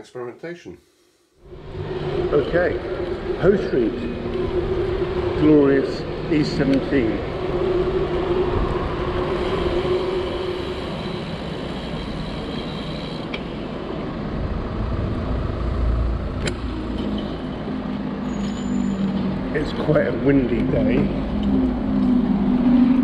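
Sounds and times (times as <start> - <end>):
low wind rumble on microphone: 1.4 - 12.3, 13.8 - 18.2, 19.3 - 23.0
engine-like hum: 1.4 - 23.0
road traffic: 1.4 - 23.0.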